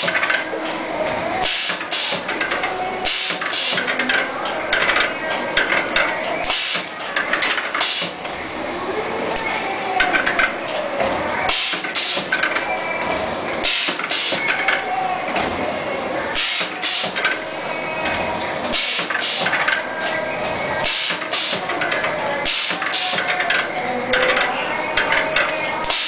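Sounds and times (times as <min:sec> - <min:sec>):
bending machine clatter and whine: 0:00.0 - 0:26.0.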